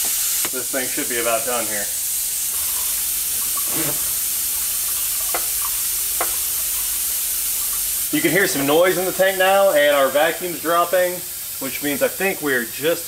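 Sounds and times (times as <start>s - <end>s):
vacuum extractor hissing and sputtering: 0.0s - 13.0s.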